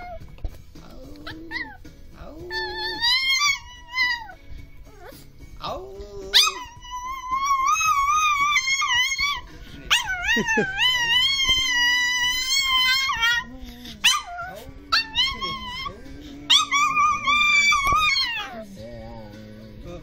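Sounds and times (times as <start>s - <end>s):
small dog howling: 1.1s - 5.2s, 6.2s - 18.7s.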